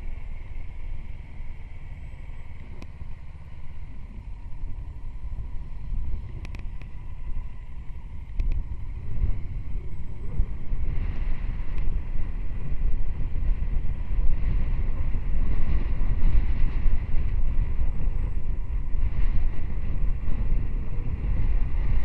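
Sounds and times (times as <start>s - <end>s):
road and engine noise: 0.0s - 22.0s
wind buffeting microphone: 0.0s - 22.0s.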